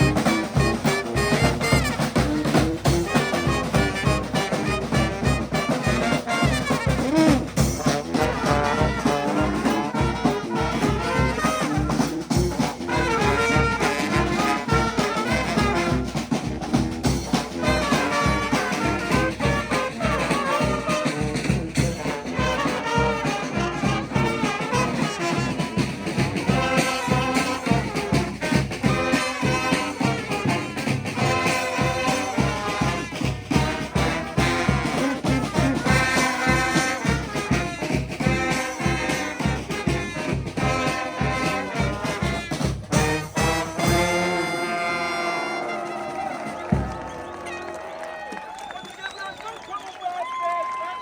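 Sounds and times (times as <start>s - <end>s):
brass band playing: 0.0s - 48.6s.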